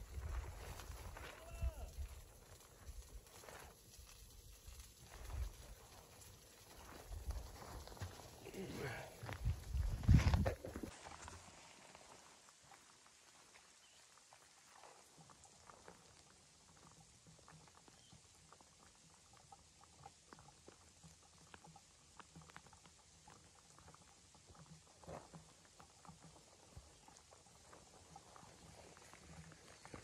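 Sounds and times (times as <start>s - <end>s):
faint patter of light rain: 0.0s - 10.0s, 10.6s - 30.0s.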